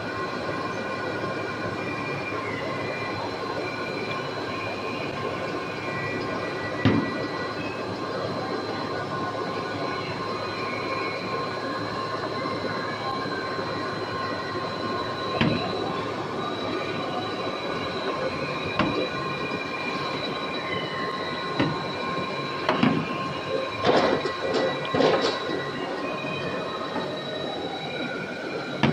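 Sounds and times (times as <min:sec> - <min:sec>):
high whine: 0:00.0 - 0:28.9
labeling machinery running: 0:00.0 - 0:28.9.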